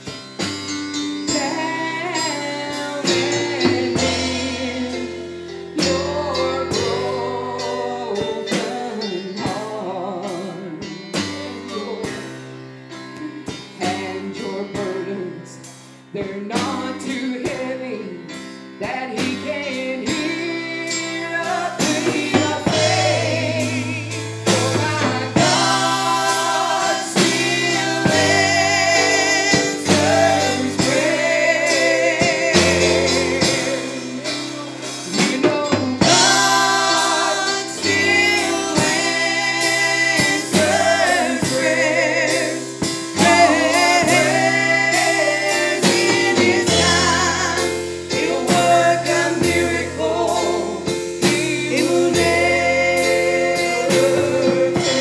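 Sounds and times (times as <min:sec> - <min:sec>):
instrumental accompaniment with bass: 0:00.0 - 0:55.0
women singing gospel: 0:01.2 - 0:12.4, 0:13.0 - 0:55.0.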